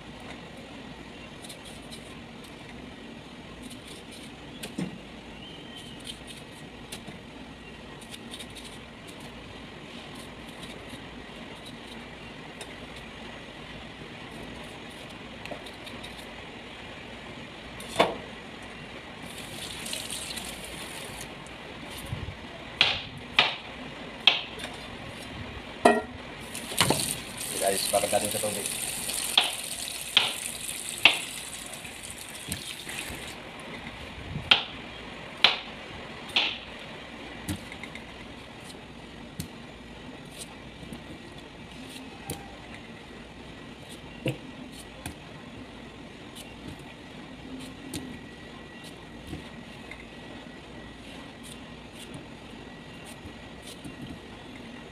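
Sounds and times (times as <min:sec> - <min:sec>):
steady background hum: 0:00.0 - 0:54.9.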